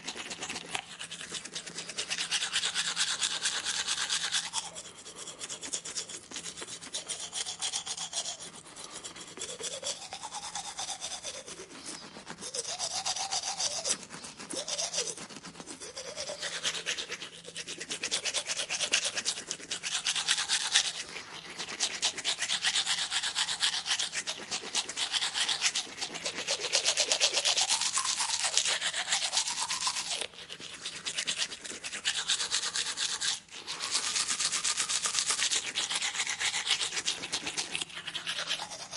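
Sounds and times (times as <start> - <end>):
teeth being brushed: 0.0 - 38.9.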